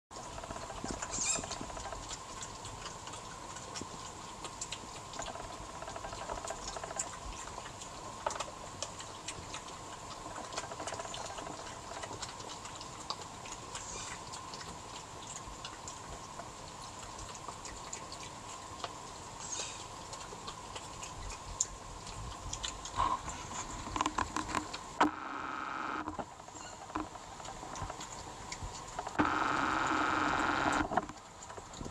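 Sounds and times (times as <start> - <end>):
badgers crunching peanuts: 0.2 - 31.8.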